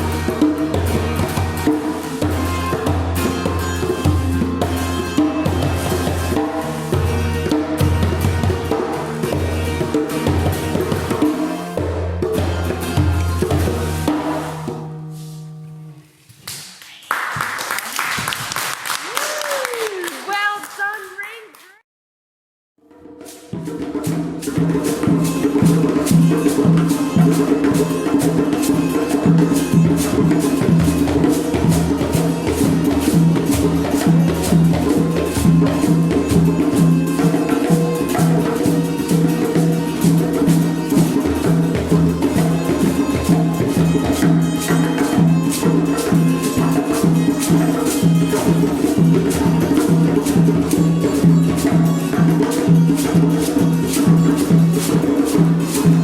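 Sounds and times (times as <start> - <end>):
children playing percussion: 0.0 - 15.4, 16.4 - 21.8, 22.9 - 56.0.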